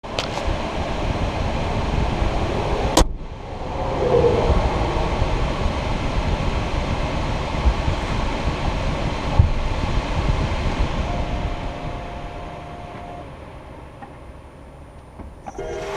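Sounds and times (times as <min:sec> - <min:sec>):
road and tyre rumble in car: 0:00.0 - 0:15.6.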